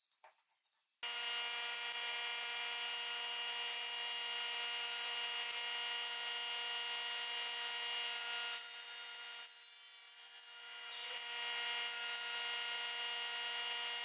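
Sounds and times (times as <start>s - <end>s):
table saw running: 1.0s - 14.0s.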